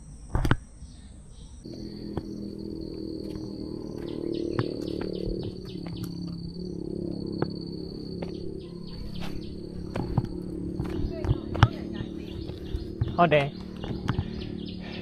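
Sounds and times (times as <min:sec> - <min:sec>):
insects buzzing: 0:00.0 - 0:15.0
low hum: 0:00.0 - 0:15.0.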